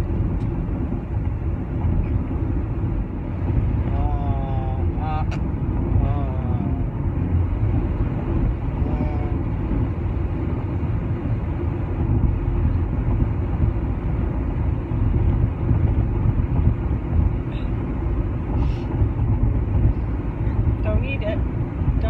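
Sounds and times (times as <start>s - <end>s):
car cabin road and engine rumble: 0.0s - 22.0s.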